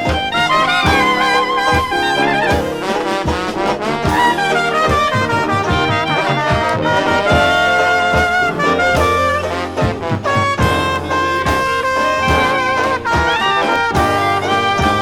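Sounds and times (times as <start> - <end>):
jazz band playing: 0.0 - 15.0
trombone: 0.0 - 15.0
trumpet: 0.0 - 15.0.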